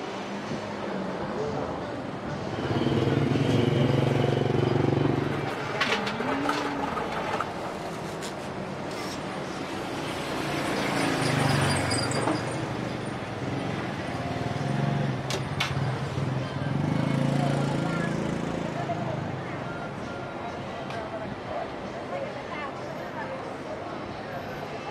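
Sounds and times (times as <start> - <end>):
busy street noise: 0.0 - 24.9.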